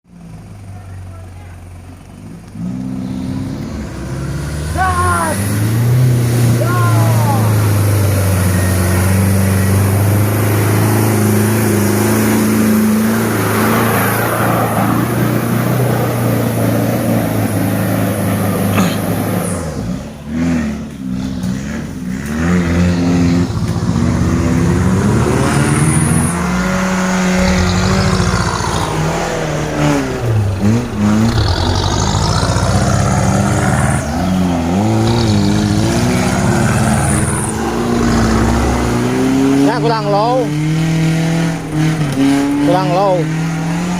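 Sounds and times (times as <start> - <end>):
diesel engine revving: 0.1 - 43.9.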